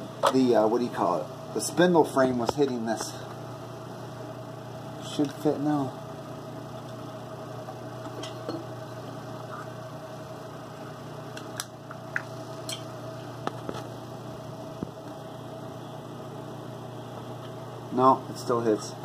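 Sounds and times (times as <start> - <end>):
workshop machinery humming: 0.0 - 19.0.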